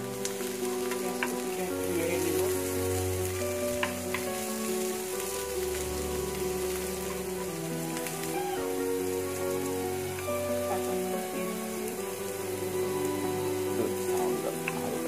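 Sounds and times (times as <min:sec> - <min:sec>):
onions sizzling in a pan: 0:00.0 - 0:15.0
soft background music: 0:00.0 - 0:15.0.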